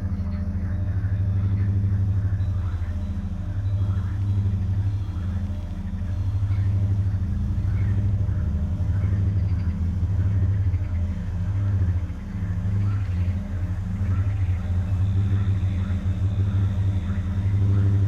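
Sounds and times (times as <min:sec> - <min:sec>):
low synth drone: 0:00.0 - 0:18.0.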